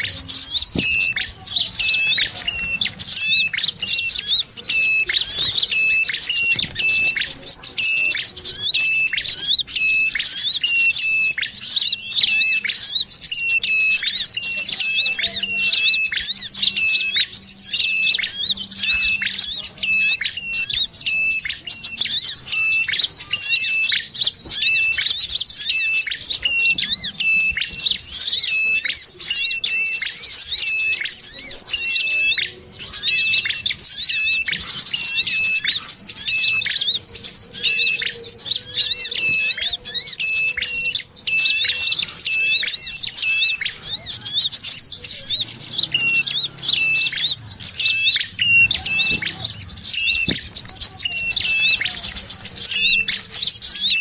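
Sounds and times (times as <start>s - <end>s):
sharp bird call: 0.0s - 54.0s
small birds chattering: 0.0s - 54.0s.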